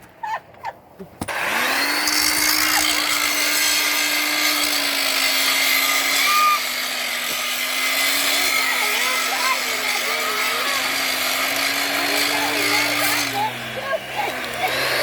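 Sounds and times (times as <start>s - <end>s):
electric grinder grinding: 1.3s - 15.0s.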